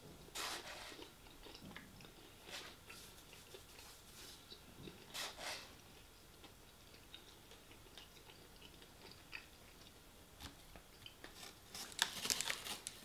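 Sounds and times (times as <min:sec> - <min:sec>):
faint chewing: 0:00.2 - 0:11.6.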